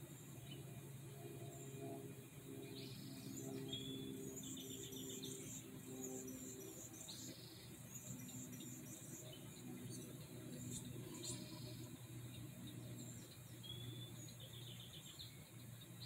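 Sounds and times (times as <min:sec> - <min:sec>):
low steady hum: 0:00.0 - 0:16.0
small birds chirping: 0:00.0 - 0:16.0.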